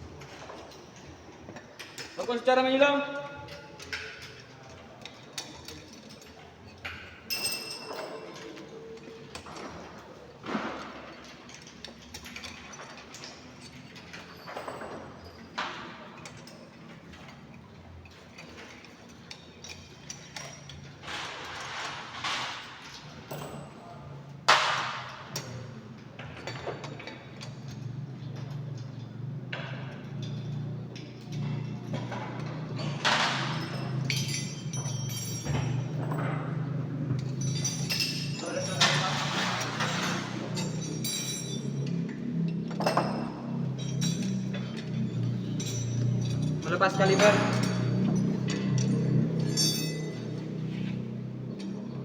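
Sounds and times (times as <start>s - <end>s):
wrench clanking on wheel nuts: 3.4s - 23.9s, 24.5s - 52.0s.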